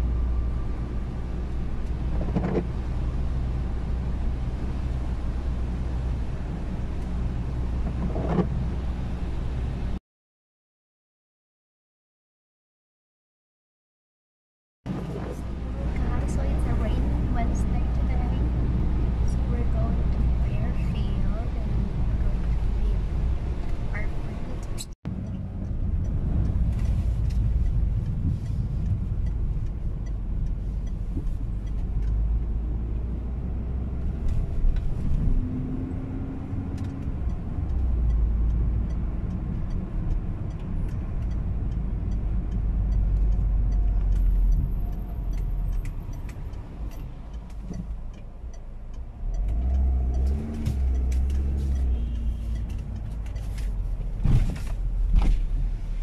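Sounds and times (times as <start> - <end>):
car engine and road rumble: 0.0 - 10.0, 14.9 - 56.0
tyres on wet road: 0.0 - 10.0, 14.9 - 56.0.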